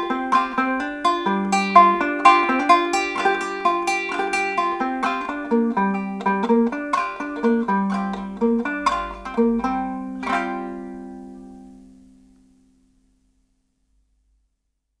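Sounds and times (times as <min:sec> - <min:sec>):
solo banjo playing: 0:00.0 - 0:12.7.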